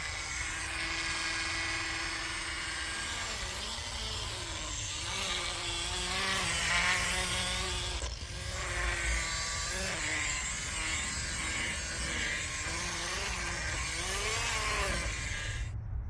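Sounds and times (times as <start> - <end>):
electric power tool running: 0.0 - 15.7.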